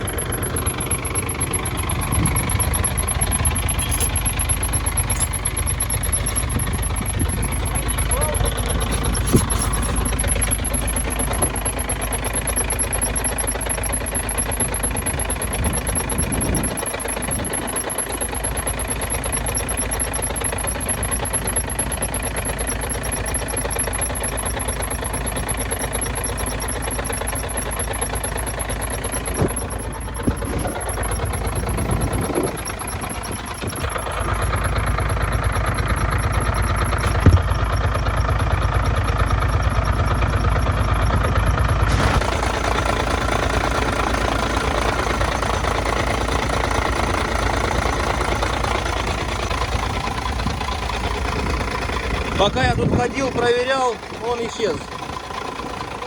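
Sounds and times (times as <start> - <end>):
truck diesel engine idling: 0.0 - 56.0.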